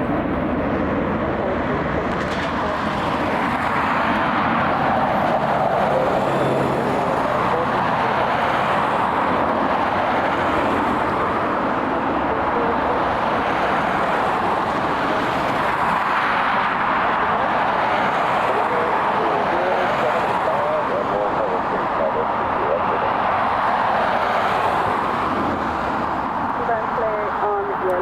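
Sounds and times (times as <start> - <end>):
aircraft engines roaring: 0.0 - 28.0.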